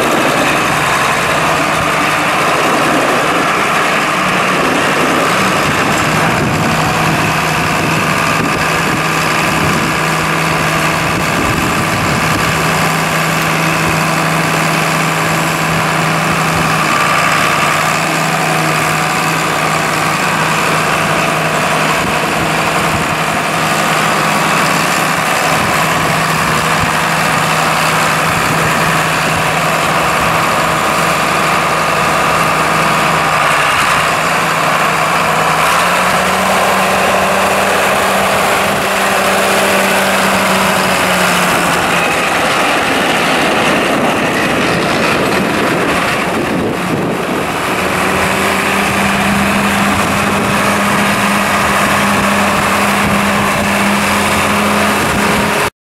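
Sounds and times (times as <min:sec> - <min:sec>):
tractor diesel engine running: 0:00.0 - 0:55.7.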